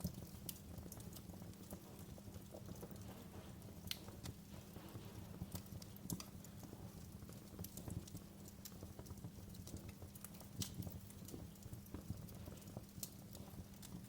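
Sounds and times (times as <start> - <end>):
low background noise: 0.0 - 14.0
wood fire crackling and popping: 0.0 - 14.0.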